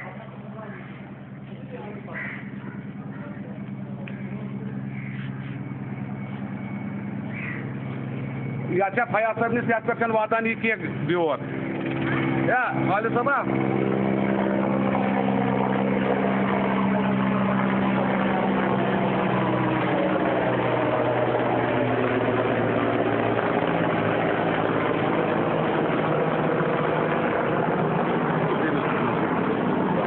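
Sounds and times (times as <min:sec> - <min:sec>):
engine running low hum: 0:00.0 - 0:30.0.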